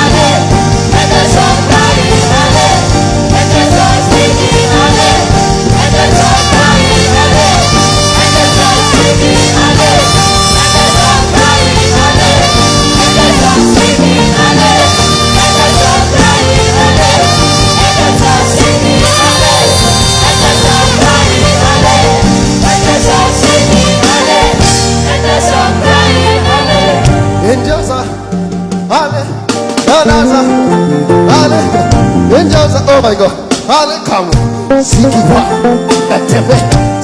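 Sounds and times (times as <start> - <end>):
live gospel dance music with singing: 0.0 - 37.0.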